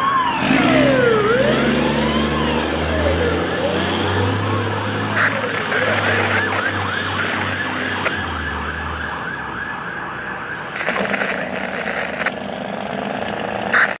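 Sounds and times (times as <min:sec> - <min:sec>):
fire truck siren yelping: 0:00.0 - 0:12.3
truck engine rumbling: 0:00.0 - 0:14.0.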